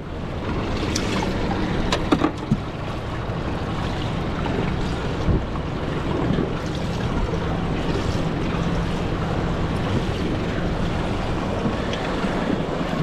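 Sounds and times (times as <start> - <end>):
water washing against hull: 0.0 - 13.0
wind buffeting microphone: 0.0 - 13.0.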